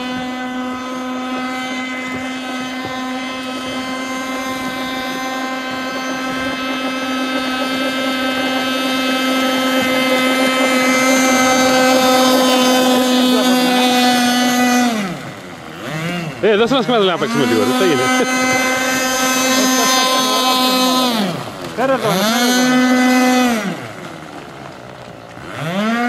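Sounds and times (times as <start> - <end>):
model boat engine running high: 0.0 - 26.0.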